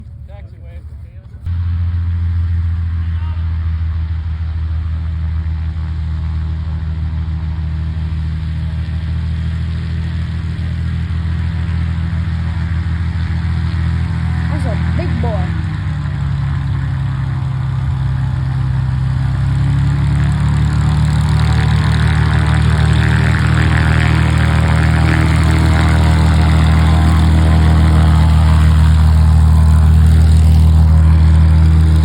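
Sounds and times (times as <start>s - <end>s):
flying boat engines droning: 0.0s - 32.0s.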